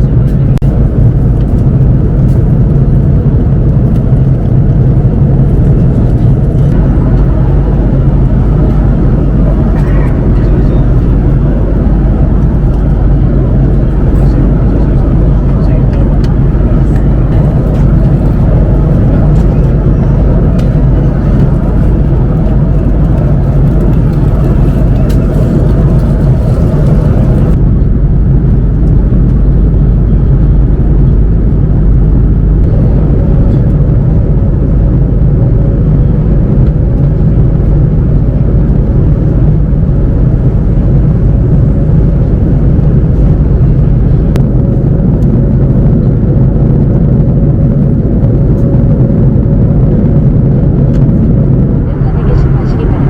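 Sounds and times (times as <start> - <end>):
airliner cabin noise: 0.0 - 53.0.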